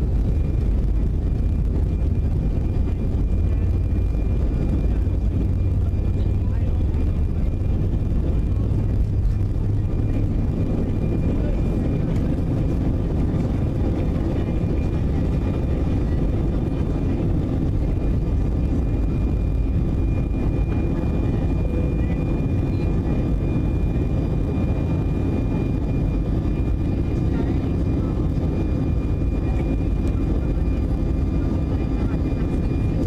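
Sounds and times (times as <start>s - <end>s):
airliner cabin engine rush: 0.0s - 33.0s
faint whining tones: 0.0s - 33.0s.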